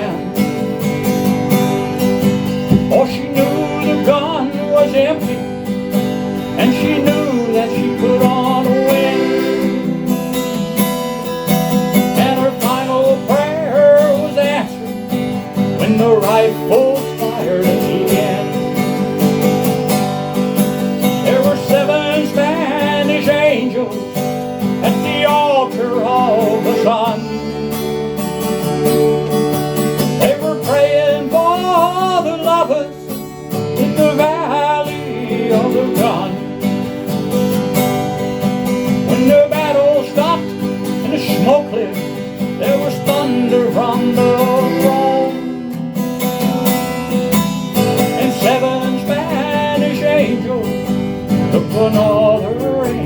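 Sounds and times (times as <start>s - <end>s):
strummed acoustic guitar: 0.0s - 53.0s.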